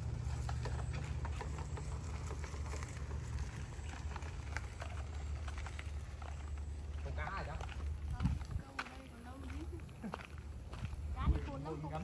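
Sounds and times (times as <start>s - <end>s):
crunches on gravel: 0.0s - 12.0s.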